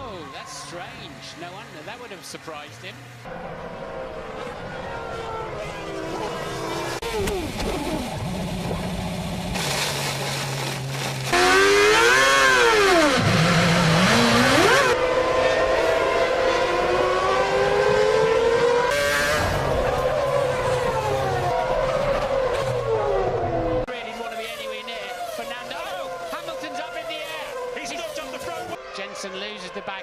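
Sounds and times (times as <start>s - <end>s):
racing car engines at high revs: 0.6s - 30.0s.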